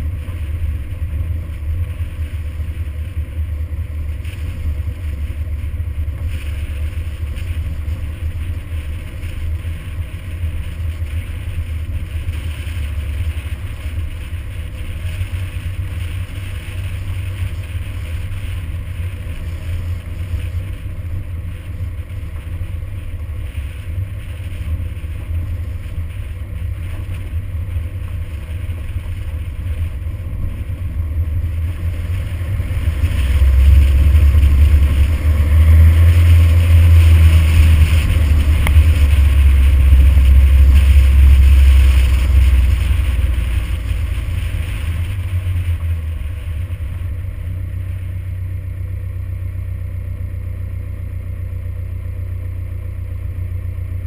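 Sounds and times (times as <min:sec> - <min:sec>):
tyres hissing on gravel: 0:00.0 - 0:50.8
pickup truck engine rumble: 0:00.0 - 0:54.0.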